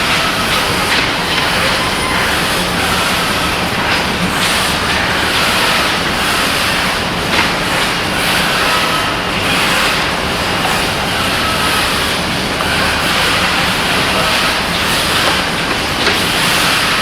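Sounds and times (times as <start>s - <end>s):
loud hissing machinery noise: 0.0s - 17.0s.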